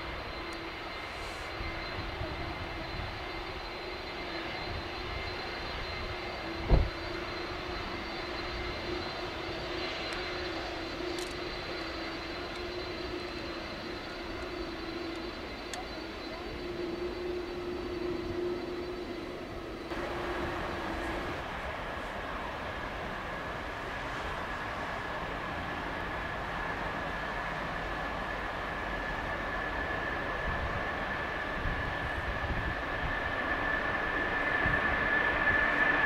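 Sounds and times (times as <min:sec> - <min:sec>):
airliner engine hum and whine: 0:00.0 - 0:36.0.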